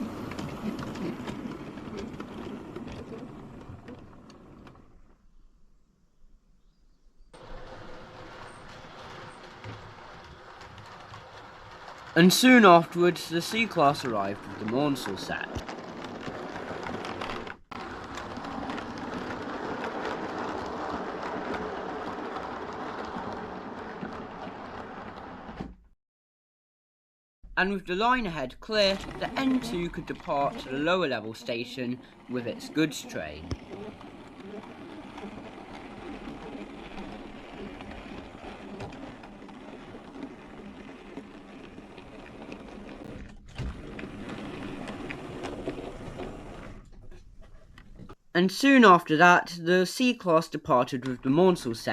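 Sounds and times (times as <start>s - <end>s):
model train rumbling on track: 0.0s - 5.0s, 7.4s - 25.6s, 27.9s - 47.1s
wheels ticking over rail joints: 0.0s - 5.2s, 7.4s - 25.6s, 27.9s - 48.3s.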